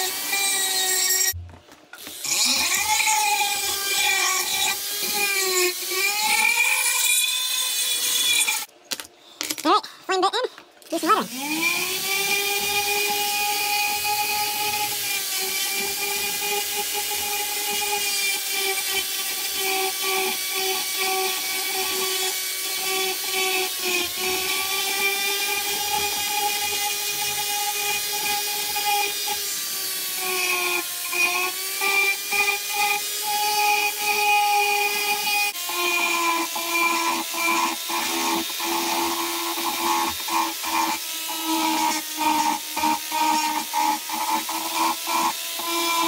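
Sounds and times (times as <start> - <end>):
rotary tool grinding wood: 2.0 - 8.7, 11.0 - 46.0.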